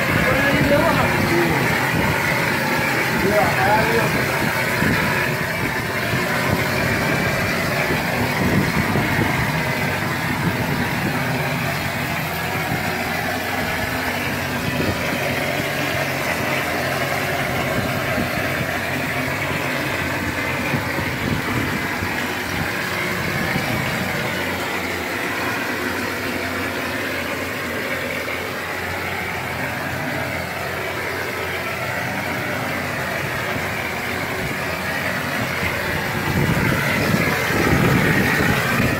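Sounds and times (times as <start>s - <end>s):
plaster machine spraying: 0.0s - 38.9s.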